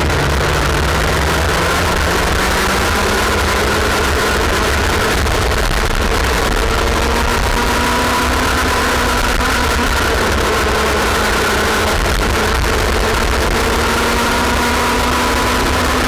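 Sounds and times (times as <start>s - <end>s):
heavy rush of noise: 0.0s - 16.0s
kart engine running hard: 0.0s - 16.0s.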